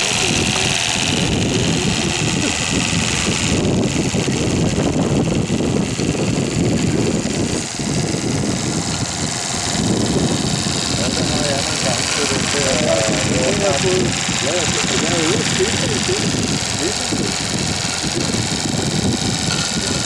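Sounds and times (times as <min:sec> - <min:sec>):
steam engine fast beat: 0:00.0 - 0:05.2, 0:06.1 - 0:20.0.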